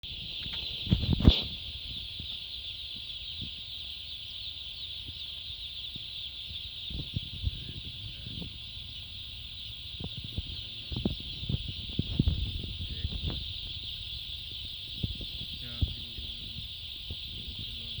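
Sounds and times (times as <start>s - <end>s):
chickens chirping: 0.0s - 18.0s.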